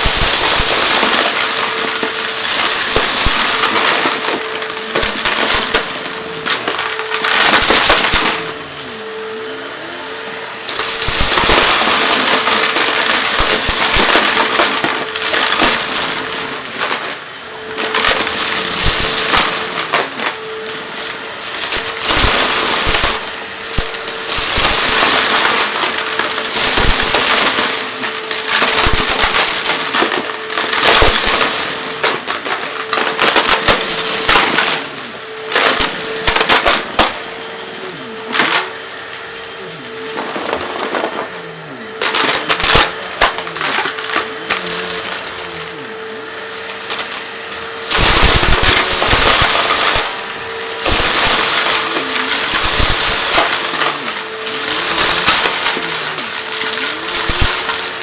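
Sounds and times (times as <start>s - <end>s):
debris crackling and crunching: 0.0s - 58.0s
vacuum cleaner whine: 0.0s - 58.0s.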